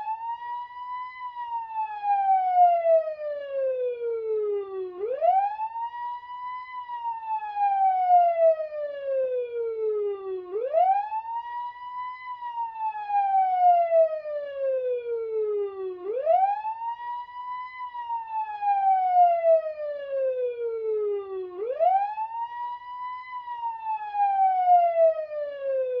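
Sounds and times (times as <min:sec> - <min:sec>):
fire engine siren wailing: 0:00.0 - 0:26.0.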